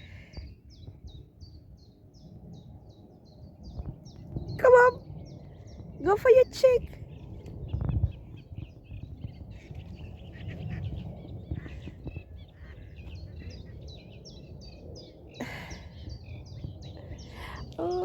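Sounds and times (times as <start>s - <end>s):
low rumble on microphone: 0.0s - 18.0s
small songbirds chirping: 0.0s - 18.0s.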